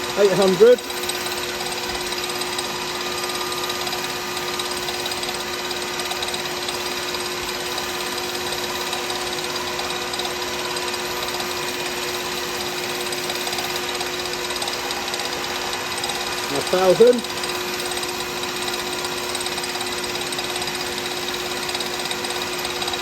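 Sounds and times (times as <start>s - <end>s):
sanding spinning wood: 0.0s - 23.0s
wood lathe humming: 0.0s - 23.0s.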